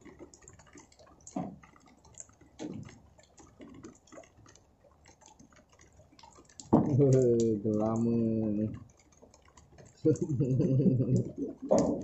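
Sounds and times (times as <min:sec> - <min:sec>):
rainwater dripping and ticking: 0:00.0 - 0:12.0.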